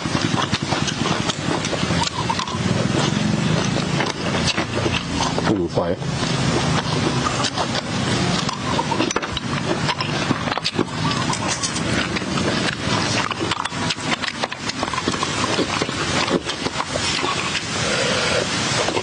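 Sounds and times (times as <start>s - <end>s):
man chewing and slurping: 0.0s - 19.0s.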